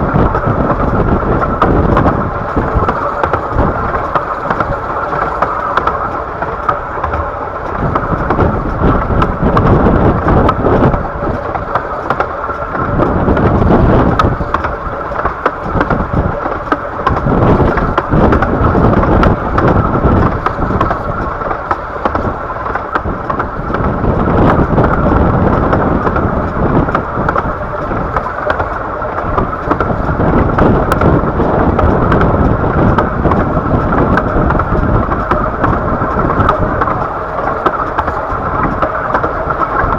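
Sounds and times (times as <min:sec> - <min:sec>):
miniature train rumbling: 0:00.0 - 0:39.9
wheels clicking on track: 0:00.0 - 0:39.9.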